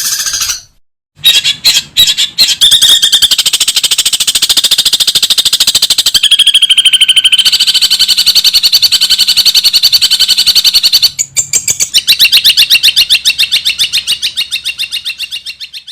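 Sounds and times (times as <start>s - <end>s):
bird rapid chattering call: 0.0s - 15.9s.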